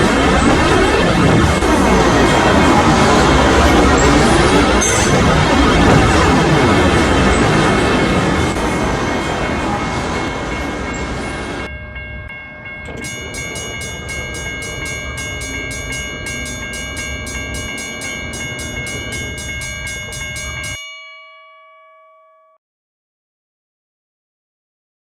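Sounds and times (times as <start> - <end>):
freight train rumbling: 0.0 - 20.8
pulsing chord of ringing tones: 0.0 - 22.6.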